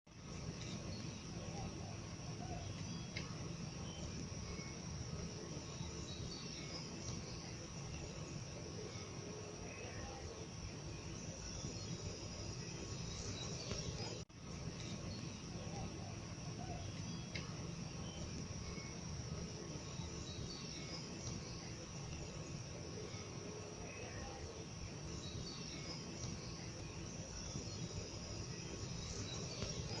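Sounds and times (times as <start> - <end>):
insects chirping: 0.1 - 30.0.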